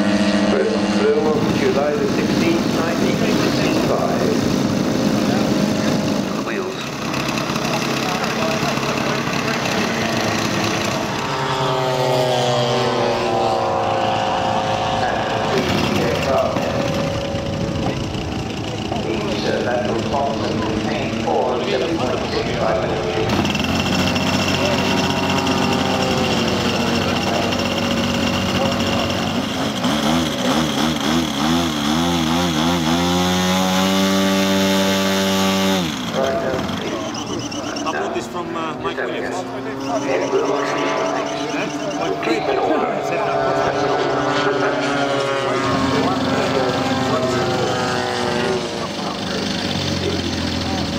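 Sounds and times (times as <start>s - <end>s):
model aeroplane engine running: 0.0s - 50.9s.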